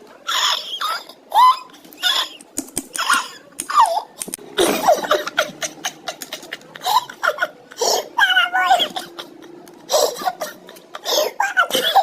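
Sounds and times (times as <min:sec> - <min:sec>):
child laughing: 0:00.3 - 0:12.0.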